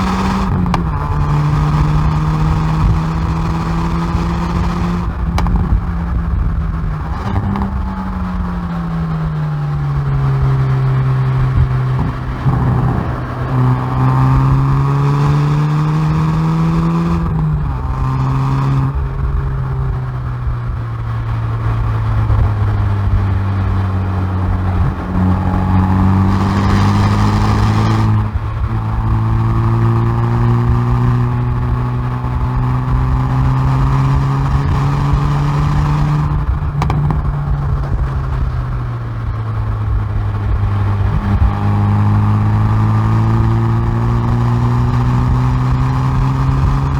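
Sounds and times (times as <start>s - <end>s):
car exhaust under hard acceleration: 0.0s - 46.9s.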